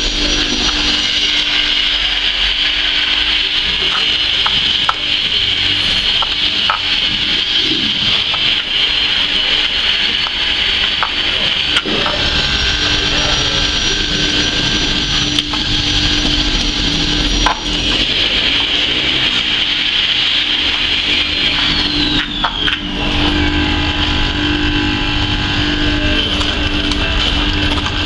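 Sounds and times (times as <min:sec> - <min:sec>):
electric fish scaler whirring: 0:00.0 - 0:28.0.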